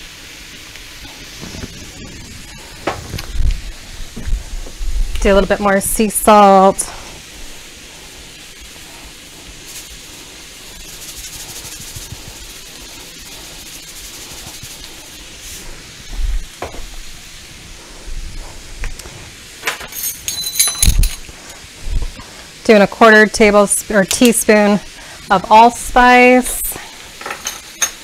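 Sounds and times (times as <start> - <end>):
faint sizzle of hot pan: 0.0 - 19.6, 21.2 - 28.0
salt grains pouring hiss: 0.0 - 28.0.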